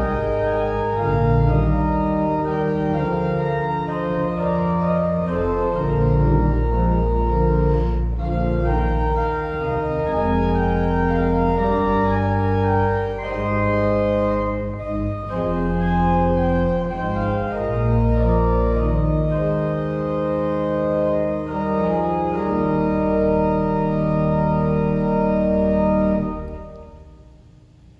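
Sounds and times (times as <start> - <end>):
organ playing hymn music: 0.0 - 27.3.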